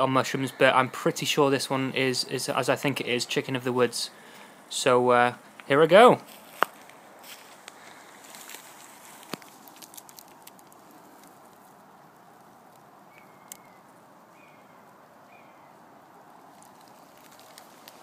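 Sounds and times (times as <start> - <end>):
faint outdoor hush: 0.0 - 18.0.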